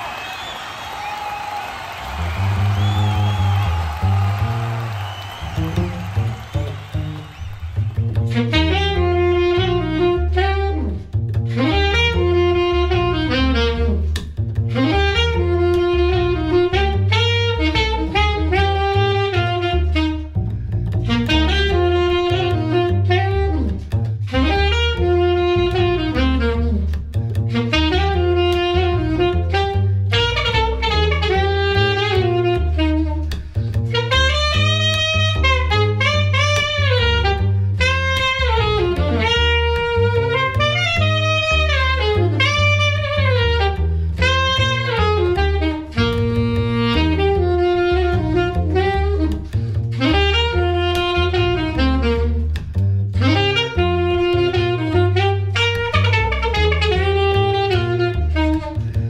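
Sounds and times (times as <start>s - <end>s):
saxophone jazz melody: 0.0s - 59.0s
double bass walking: 5.5s - 59.0s.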